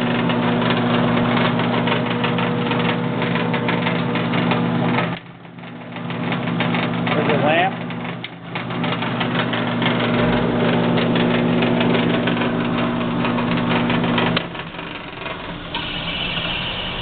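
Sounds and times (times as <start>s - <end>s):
drill press motor humming: 0.0s - 5.2s, 8.6s - 17.0s.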